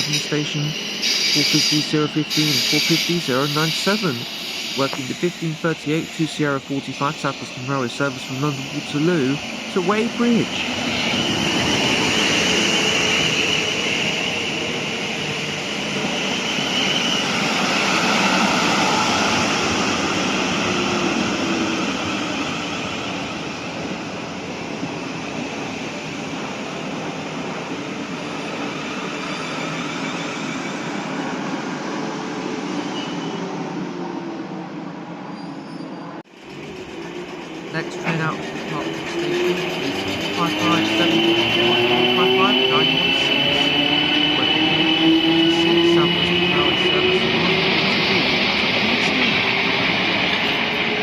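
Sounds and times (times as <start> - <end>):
electric train running: 0.0 - 32.5, 36.3 - 51.0.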